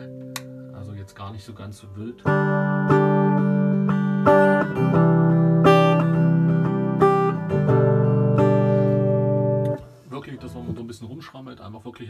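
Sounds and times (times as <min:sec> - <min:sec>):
guitar strumming chords with reverb: 0:00.0 - 0:01.1, 0:02.1 - 0:10.8.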